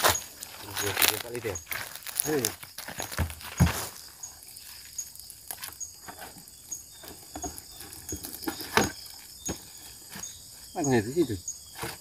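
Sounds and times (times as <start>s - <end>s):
rustling: 0.0s - 10.7s
faint high insect chirp: 0.0s - 12.0s.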